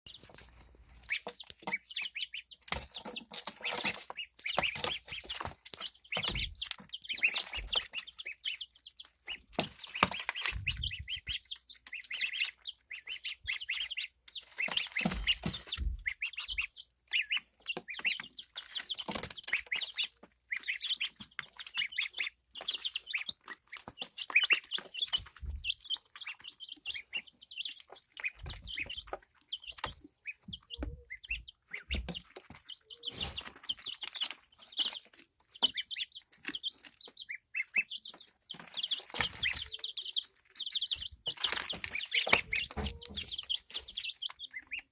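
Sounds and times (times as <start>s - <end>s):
chicks and duckling cheeping: 0.0s - 44.9s.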